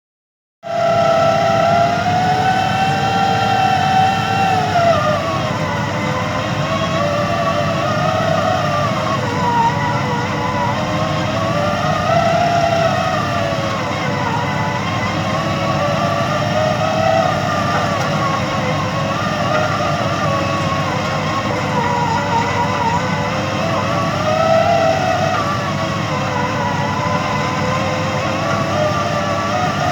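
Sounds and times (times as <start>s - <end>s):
drilling rig high whine: 0.6s - 29.9s
low engine noise: 0.6s - 29.9s.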